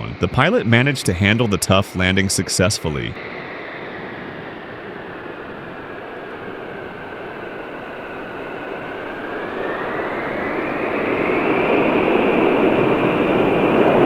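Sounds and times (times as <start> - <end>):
jet engines rushing and whining: 0.0 - 14.0.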